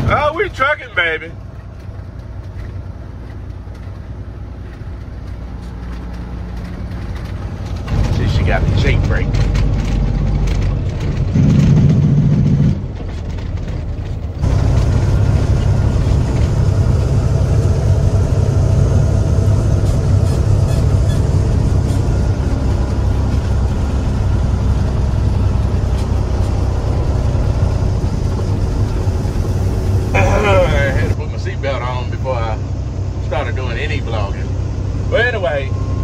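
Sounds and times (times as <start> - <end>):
diesel truck engine pulling: 0.0 - 36.0
truck engine brake: 1.5 - 31.2.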